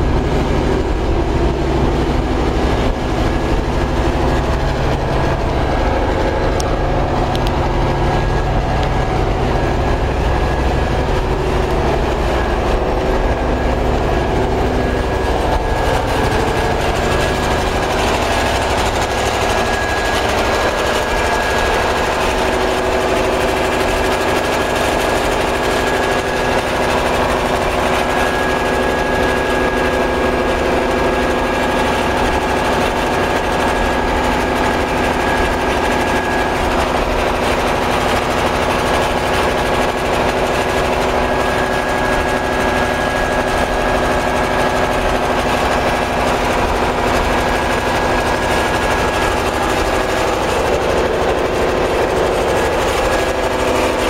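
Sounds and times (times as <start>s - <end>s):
machinery drone: 0.0s - 54.0s.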